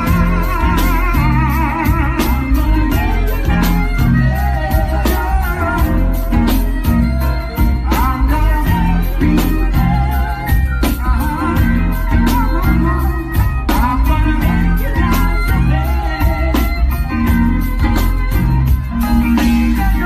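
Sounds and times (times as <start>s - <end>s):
heavy bass line: 0.0s - 20.0s
live reggae band: 0.0s - 20.0s.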